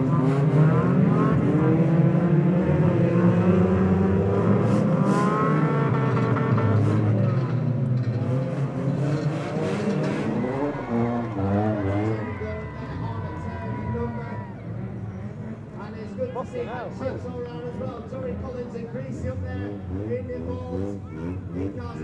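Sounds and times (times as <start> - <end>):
racing car engines revving: 0.0 - 22.0.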